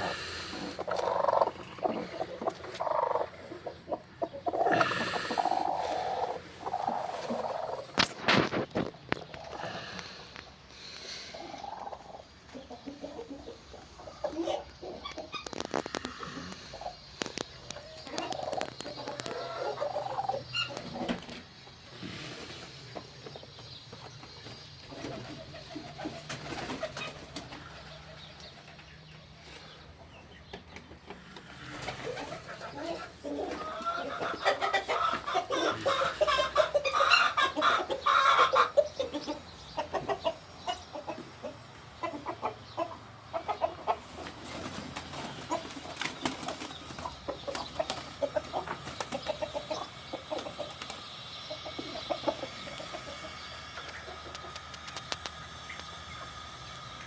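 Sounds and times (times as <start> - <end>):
hens squawking: 0.0 - 23.0, 24.9 - 28.2, 31.1 - 57.0
hens clucking: 0.0 - 57.0.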